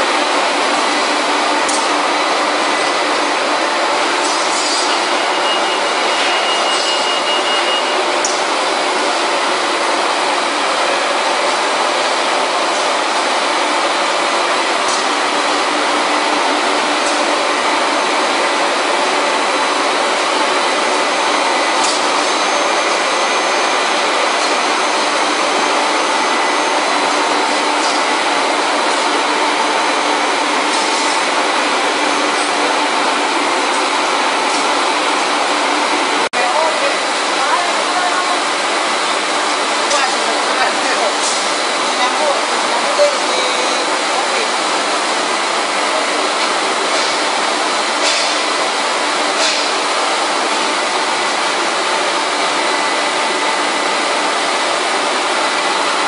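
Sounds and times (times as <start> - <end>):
machinery running: 0.0 - 56.0.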